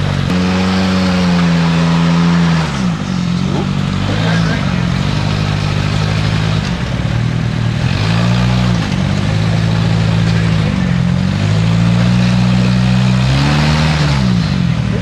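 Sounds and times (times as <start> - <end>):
car engine working under load: 0.0 - 15.0.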